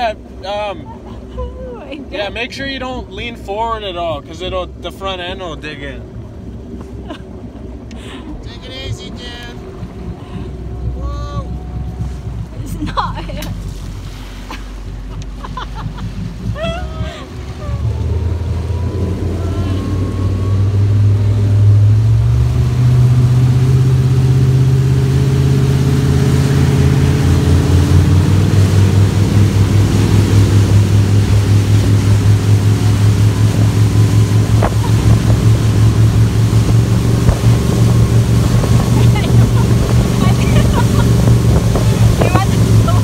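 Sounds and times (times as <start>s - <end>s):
motorboat engine: 0.0s - 43.0s.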